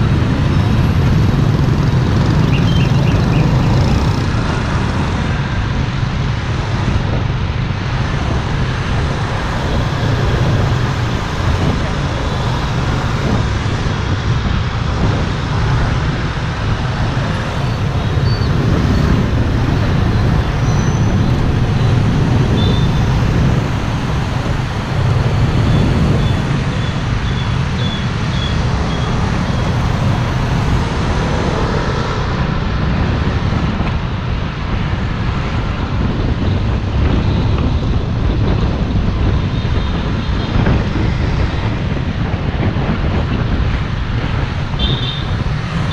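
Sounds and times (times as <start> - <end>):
road traffic noise: 0.0 - 45.9.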